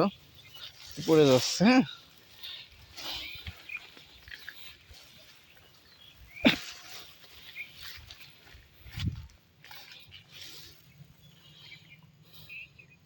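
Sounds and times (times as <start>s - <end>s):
bird chirps: 0.0s - 9.0s, 9.6s - 13.0s.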